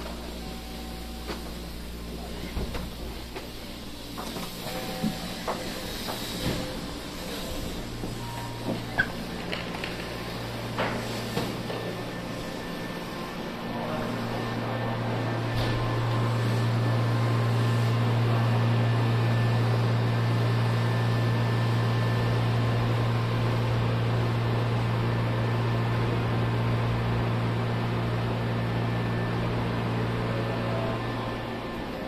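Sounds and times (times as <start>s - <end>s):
train low hum: 0.0s - 32.0s.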